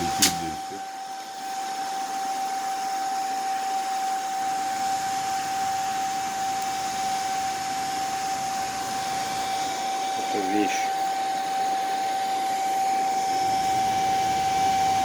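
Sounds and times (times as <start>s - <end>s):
fan motor whining: 0.0s - 15.0s.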